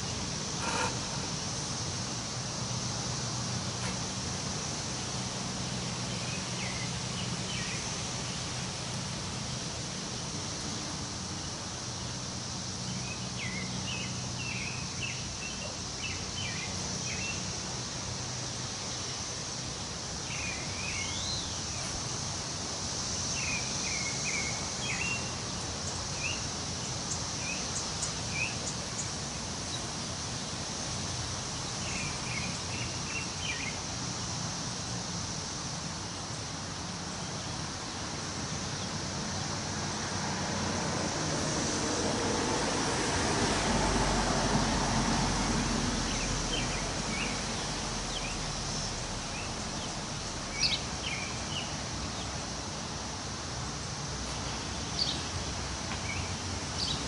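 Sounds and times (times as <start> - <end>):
songbirds chirping: 0.0 - 35.4, 45.4 - 57.0
wind rustling leaves: 0.0 - 57.0.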